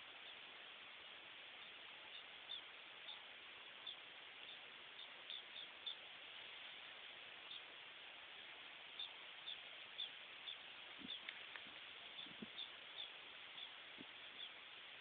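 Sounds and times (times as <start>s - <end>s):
small birds chirping: 0.0s - 15.0s
steady hiss: 0.0s - 15.0s.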